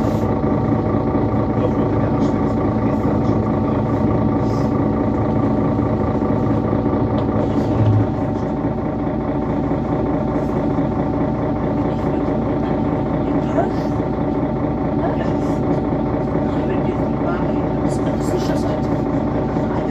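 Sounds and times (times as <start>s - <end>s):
bus engine droning: 0.0s - 19.9s.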